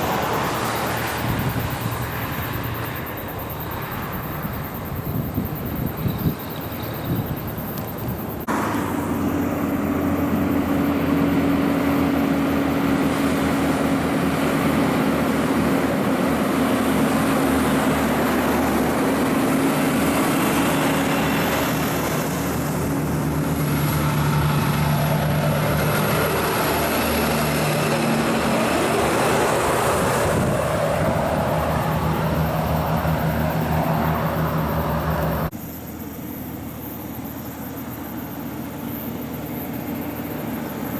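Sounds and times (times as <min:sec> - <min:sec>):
diesel truck engine droning: 0:07.0 - 0:40.9.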